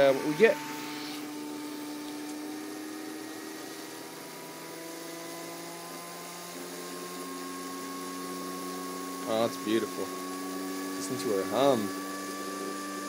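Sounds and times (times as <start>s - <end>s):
electric motor hum and whine: 0.0s - 13.0s.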